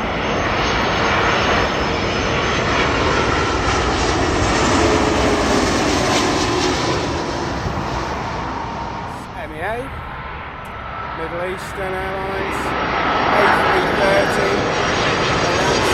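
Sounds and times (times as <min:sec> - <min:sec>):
jet airliner flying past: 0:00.0 - 0:15.9.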